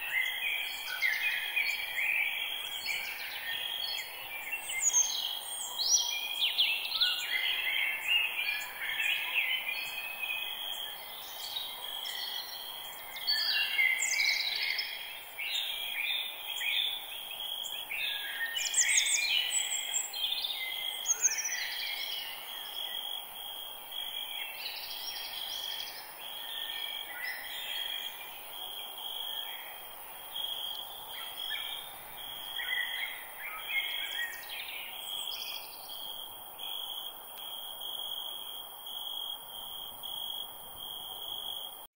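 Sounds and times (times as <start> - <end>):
birds singing and calling: 0.0 - 23.0, 24.3 - 29.9, 30.9 - 36.7.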